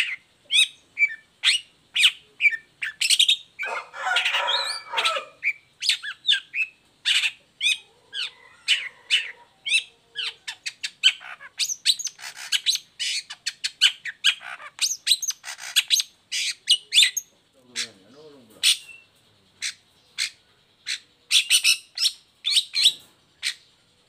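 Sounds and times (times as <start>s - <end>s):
shrike singing: 0.0s - 23.6s.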